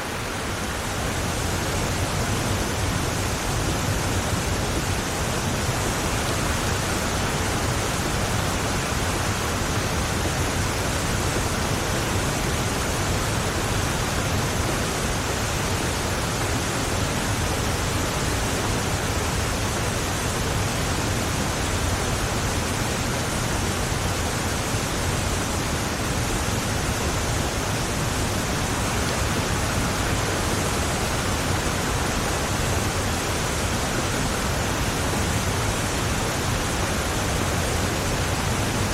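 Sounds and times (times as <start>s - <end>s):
heavy rain on a car: 0.1s - 38.9s.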